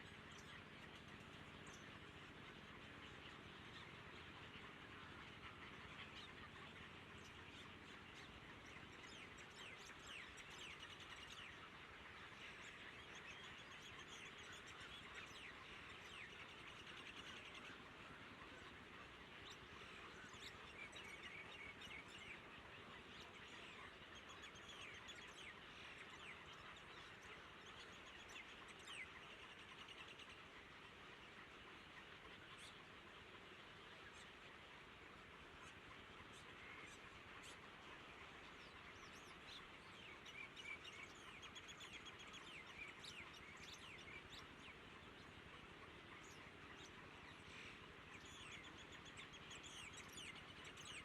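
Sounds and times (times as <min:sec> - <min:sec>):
faint high bird chirps: 0:00.0 - 0:51.0
steady low hiss: 0:00.0 - 0:51.0.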